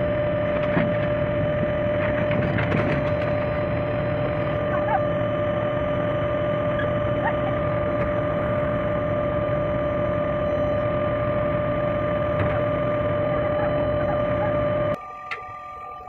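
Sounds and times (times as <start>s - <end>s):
excavator engine drone: 0.0s - 16.0s
high whine: 0.0s - 16.0s.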